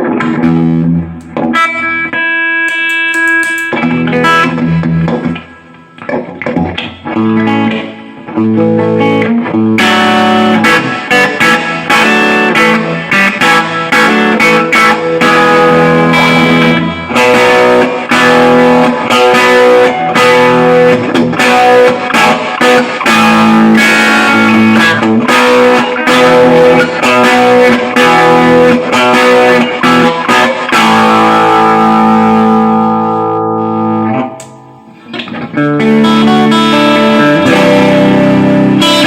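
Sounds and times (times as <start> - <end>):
electric guitar chords: 0.0 - 39.0.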